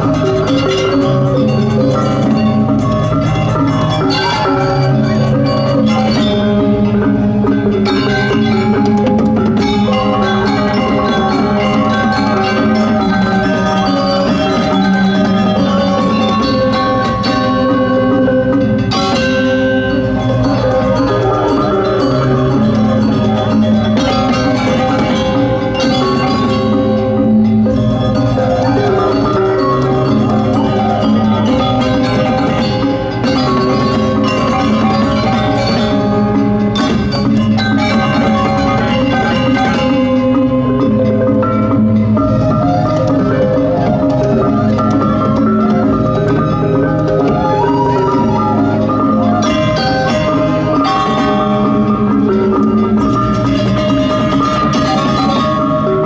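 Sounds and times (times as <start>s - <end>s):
gamelan playing: 0.0s - 56.0s.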